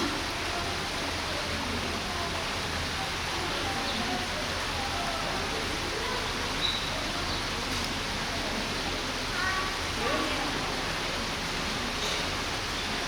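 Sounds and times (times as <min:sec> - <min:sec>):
faint distant voices: 0:00.0 - 0:13.0.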